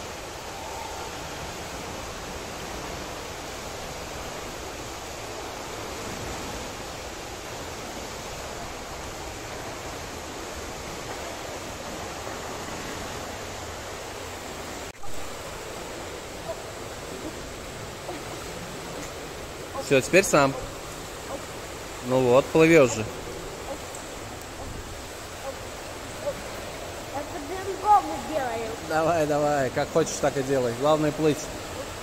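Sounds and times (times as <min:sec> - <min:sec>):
swimming pool splashing: 0:00.0 - 0:32.0.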